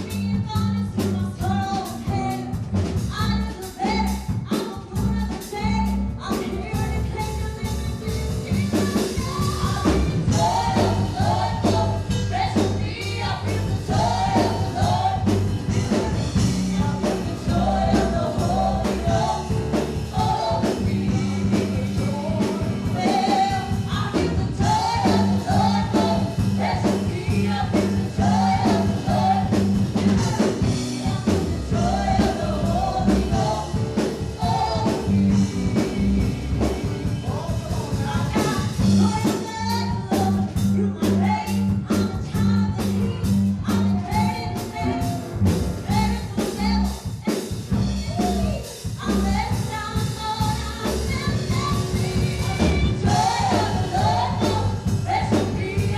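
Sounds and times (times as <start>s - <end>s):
band playing: 0.0s - 55.9s
steady drum beat: 0.0s - 55.9s
held bass notes: 5.0s - 47.0s, 47.6s - 55.9s
gospel singers: 6.3s - 55.9s.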